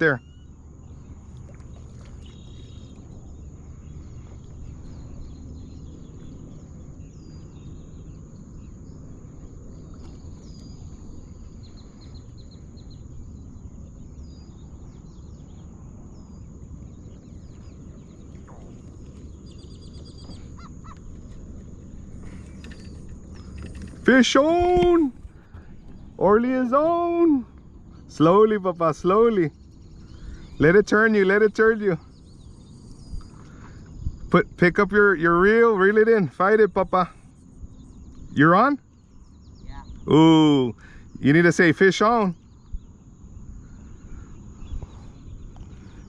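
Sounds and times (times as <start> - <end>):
birds calling: 0.0 - 46.0
wind rumble on microphone: 0.0 - 46.0.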